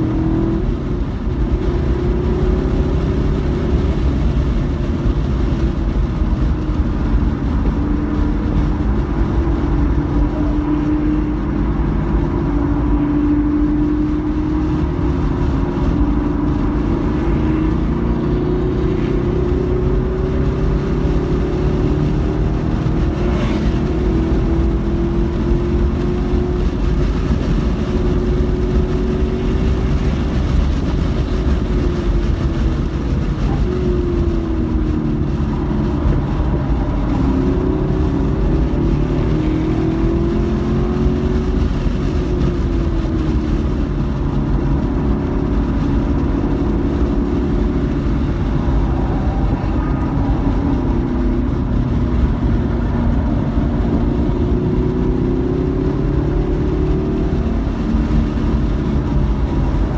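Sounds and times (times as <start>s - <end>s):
car engine accelerating: 0.0s - 59.9s
road and wind rumble: 0.0s - 59.9s.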